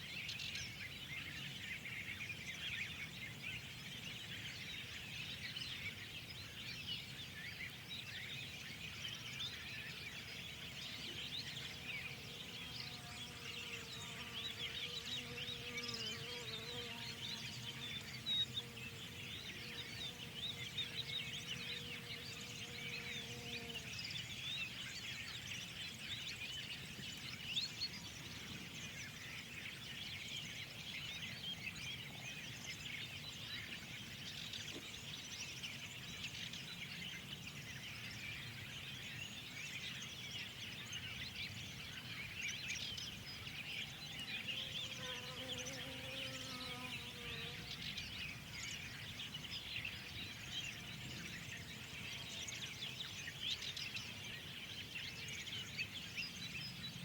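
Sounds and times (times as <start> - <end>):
low outdoor background noise: 0.0 - 57.0
songbirds chirping and singing: 0.0 - 57.0.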